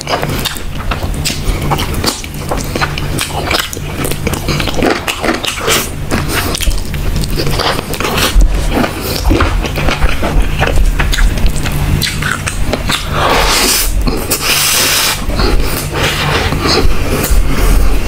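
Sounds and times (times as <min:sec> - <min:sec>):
low hum: 0:00.0 - 0:18.0
wet chewing and lip-smacking: 0:00.0 - 0:18.0.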